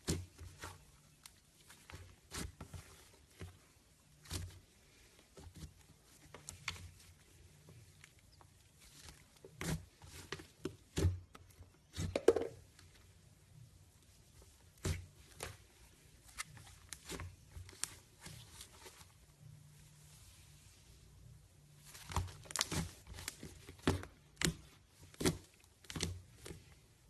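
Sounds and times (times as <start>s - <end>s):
slime squelch: 0.0s - 12.1s, 13.9s - 27.0s
hands working sticky slime: 0.0s - 27.0s.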